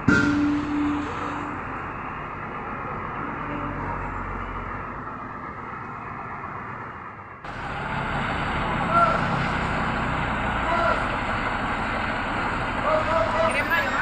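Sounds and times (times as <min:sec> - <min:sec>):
road noise: 0:00.0 - 0:14.0
vehicle engine: 0:00.0 - 0:14.0.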